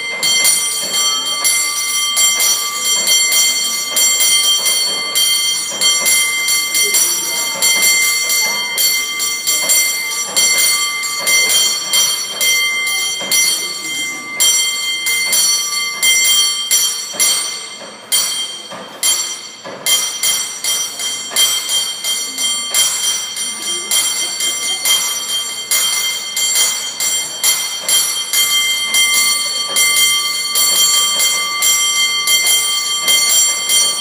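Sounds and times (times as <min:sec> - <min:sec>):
bell clanging rapidly: 0:00.0 - 0:34.0.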